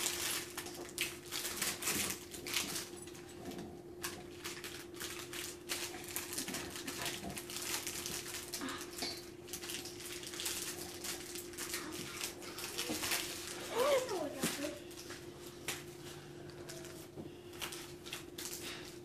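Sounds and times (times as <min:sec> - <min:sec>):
plastic wrappers crinkling: 0:00.0 - 0:19.0.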